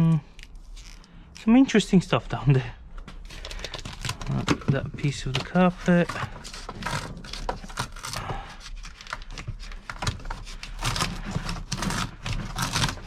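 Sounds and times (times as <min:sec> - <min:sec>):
carpet rustling and scraping: 0:02.4 - 0:13.0.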